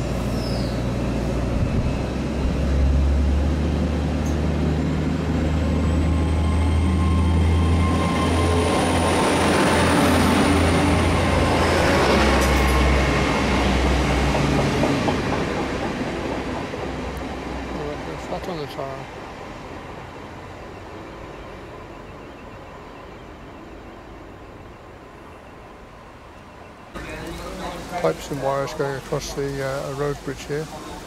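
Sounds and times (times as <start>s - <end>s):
train engine drone: 0.0s - 31.0s
wheels rumbling on rails: 0.0s - 31.0s.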